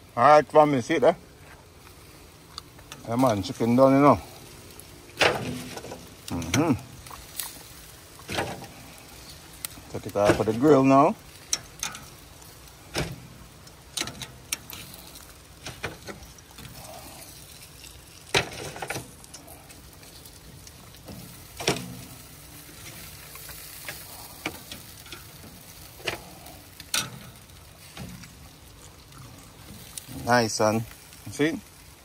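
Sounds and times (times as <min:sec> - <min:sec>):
faint steady hiss: 0:00.0 - 0:32.0
metal tongs clacking on grill grate: 0:02.5 - 0:04.0, 0:05.2 - 0:07.6, 0:08.2 - 0:31.3.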